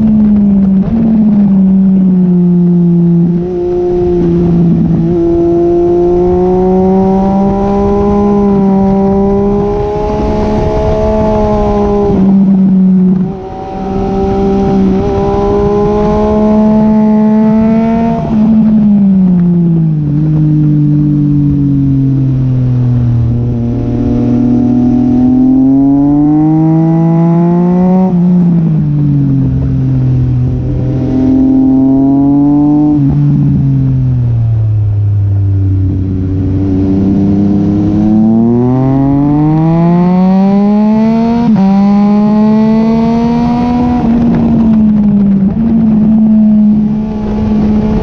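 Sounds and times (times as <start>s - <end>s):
motorcycle engine revving: 0.0s - 48.0s
rushing wind noise: 0.0s - 48.0s.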